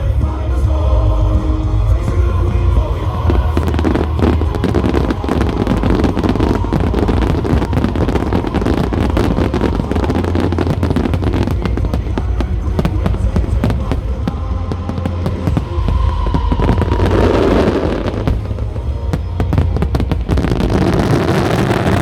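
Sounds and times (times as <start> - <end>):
loud music: 0.0 - 22.0
fireworks crackling: 1.2 - 22.0.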